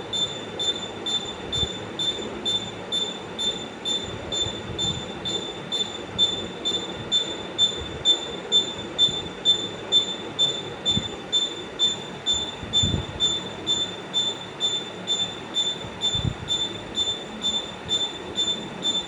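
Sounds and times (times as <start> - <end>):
pulsing high-pitched squeal: 0.0 - 19.0.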